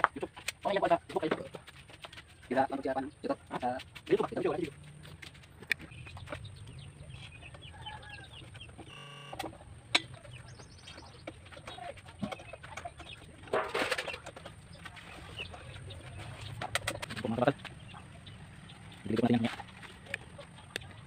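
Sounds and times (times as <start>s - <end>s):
chickens clucking: 0.1s - 21.0s.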